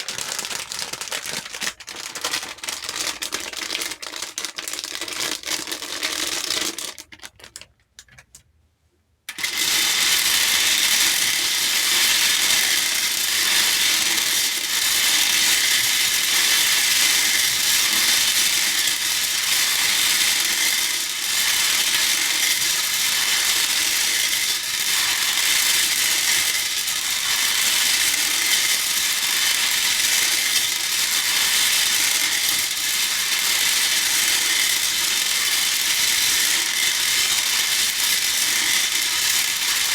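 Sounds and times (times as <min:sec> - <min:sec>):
plastic beads rattling in a bowl: 0:00.0 - 0:08.2, 0:09.3 - 0:39.9.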